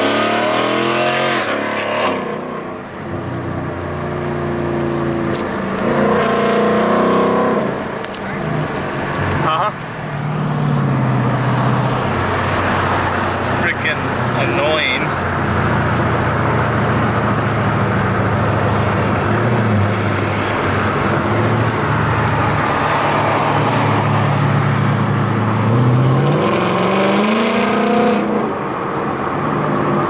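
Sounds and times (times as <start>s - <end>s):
v eight engine with open exhaust: 0.0s - 30.0s.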